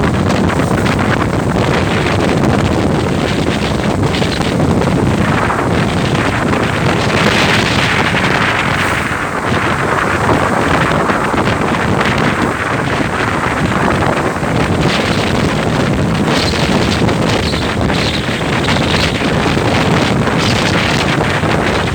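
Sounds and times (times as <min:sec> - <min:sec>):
strong wind on microphone: 0:00.0 - 0:21.9.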